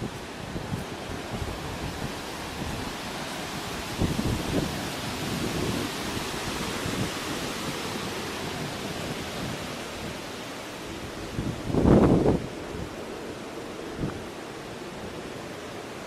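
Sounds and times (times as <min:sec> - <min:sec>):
rush of wind and water: 0:00.0 - 0:16.0
wind gusts buffeting microphone: 0:00.0 - 0:16.0.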